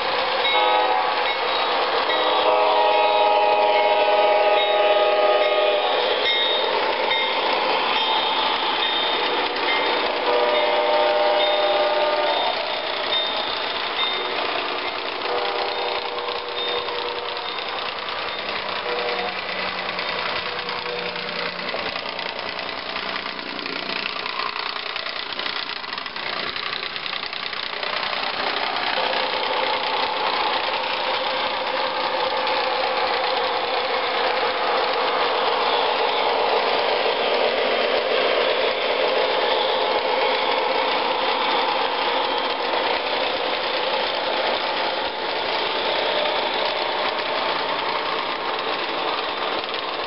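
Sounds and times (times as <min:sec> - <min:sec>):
digital locomotive engine sound: 0:00.0 - 0:50.0
model train wheels rumbling: 0:00.0 - 0:50.0.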